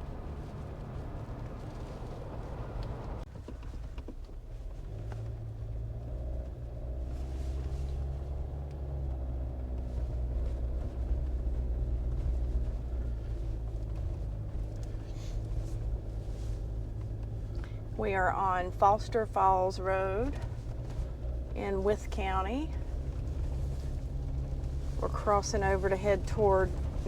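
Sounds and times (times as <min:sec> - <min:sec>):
engine and road rumble inside car: 0:00.0 - 0:27.0.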